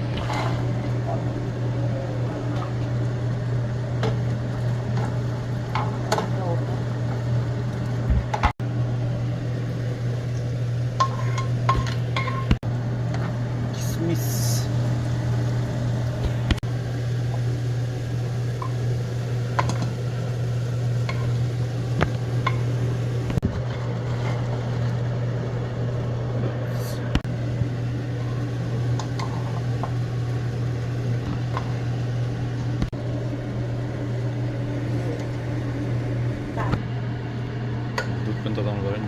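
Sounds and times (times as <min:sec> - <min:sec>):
kitchen appliance humming: 0:00.0 - 0:39.0.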